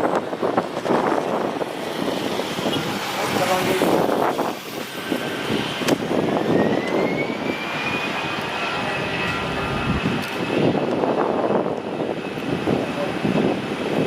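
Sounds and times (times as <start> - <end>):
jet engines roaring: 0.0 - 14.0
rising engine whine: 0.0 - 14.0.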